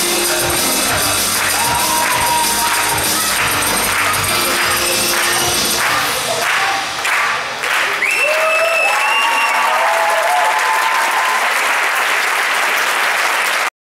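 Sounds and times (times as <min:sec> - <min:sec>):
audience applauding: 0:00.0 - 0:13.7
people cheering: 0:00.0 - 0:13.7.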